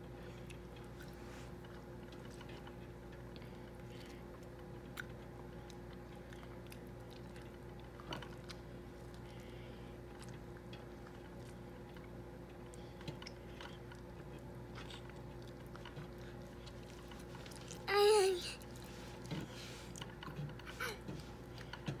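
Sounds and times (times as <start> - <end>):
steady low hum: 0.0 - 22.0
toddler chewing: 0.3 - 22.0.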